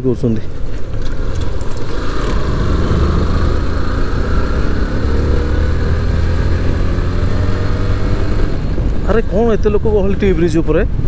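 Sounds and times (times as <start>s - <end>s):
low rumble: 0.8s - 11.0s.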